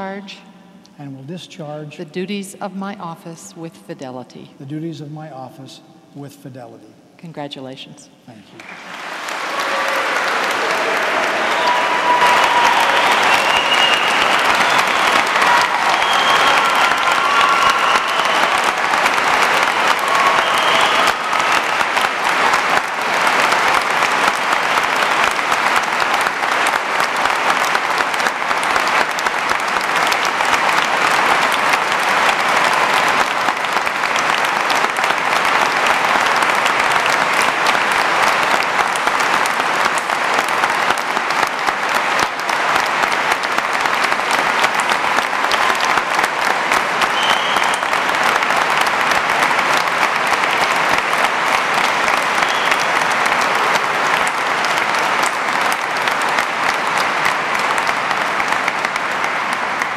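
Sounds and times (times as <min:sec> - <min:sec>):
crowd applauding: 0:08.5 - 0:59.9.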